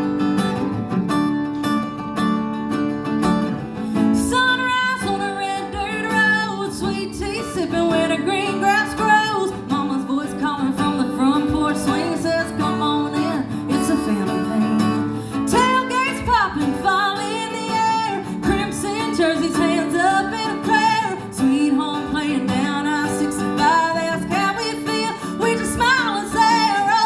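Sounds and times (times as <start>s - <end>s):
acoustic guitar strumming: 0.0s - 27.0s
woman singing: 4.0s - 27.0s.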